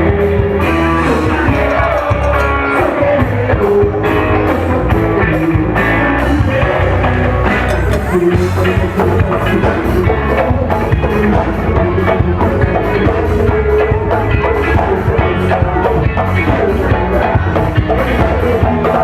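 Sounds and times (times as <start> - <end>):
loud band music: 0.0 - 19.0.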